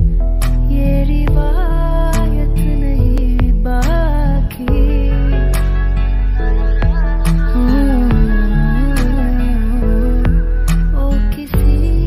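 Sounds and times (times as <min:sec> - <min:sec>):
held instrumental chords: 0:00.0 - 0:12.0
person singing: 0:00.0 - 0:12.0
steady bass: 0:00.0 - 0:12.0.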